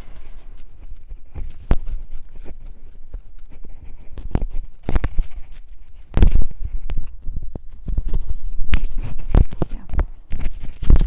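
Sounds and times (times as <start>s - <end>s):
microphone handling noise: 0.0s - 11.0s.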